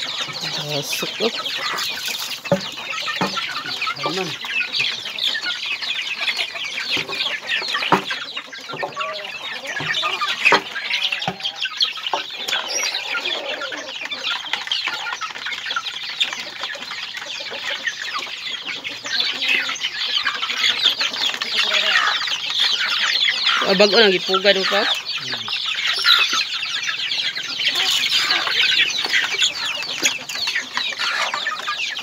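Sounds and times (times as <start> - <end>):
chickens clucking and cheeping: 0.0 - 32.0.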